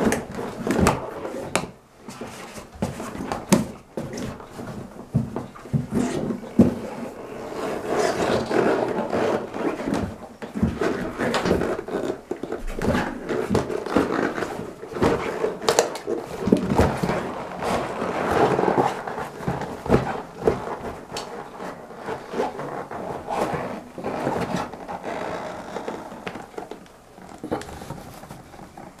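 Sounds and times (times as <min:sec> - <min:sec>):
rubber boots rubbing and scraping: 0:00.0 - 0:29.0.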